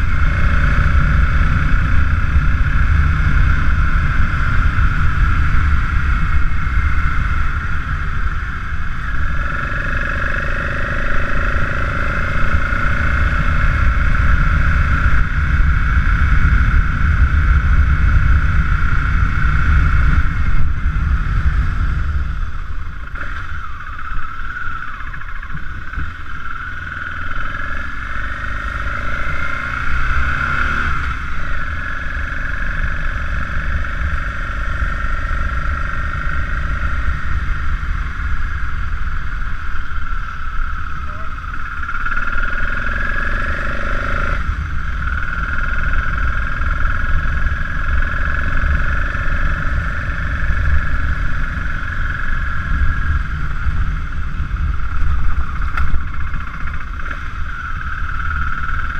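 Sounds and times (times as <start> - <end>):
motorcycle engine running: 0.0 - 58.9
road rumble: 0.0 - 58.9
wind: 0.0 - 58.9.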